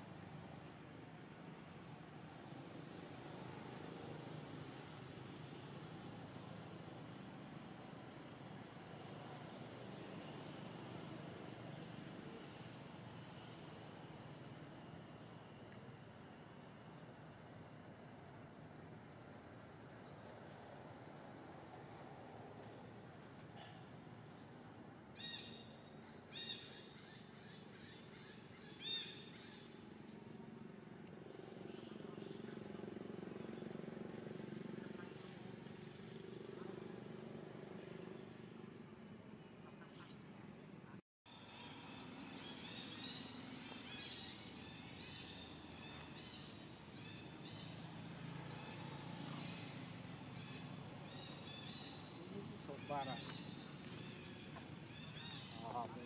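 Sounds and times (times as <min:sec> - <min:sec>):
faint low engine drone: 0:00.0 - 0:56.0
low forest background hum: 0:00.0 - 0:56.0.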